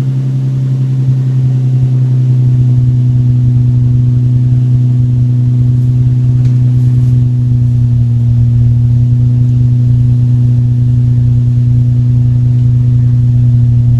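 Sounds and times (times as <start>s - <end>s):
car engine humming: 0.0s - 13.9s.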